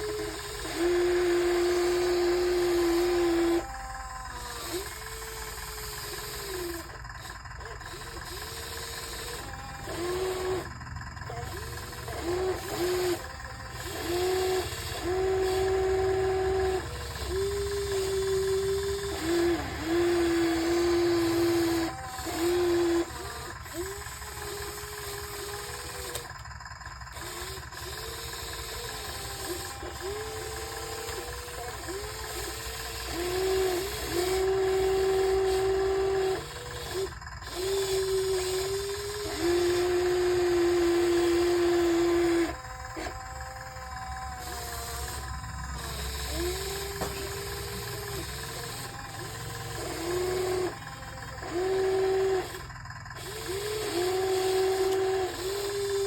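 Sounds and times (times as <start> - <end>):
toy excavator motors whining: 0.0 - 56.0.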